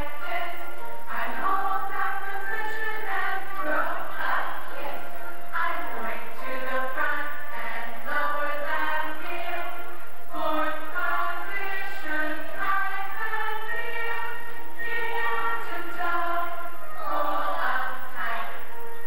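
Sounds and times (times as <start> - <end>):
several voices singing over music: 0.0 - 19.0.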